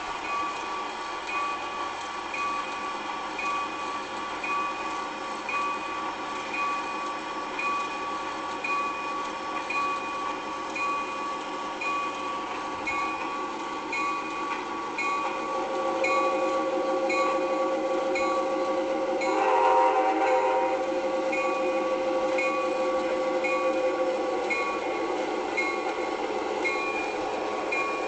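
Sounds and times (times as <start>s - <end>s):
railroad bell ringing: 0.0s - 28.0s
train hum: 0.0s - 28.0s.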